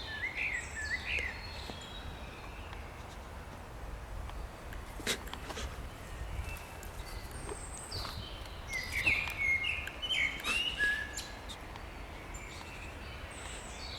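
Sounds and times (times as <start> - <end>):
songbirds singing: 0.0 - 3.2, 4.2 - 13.9.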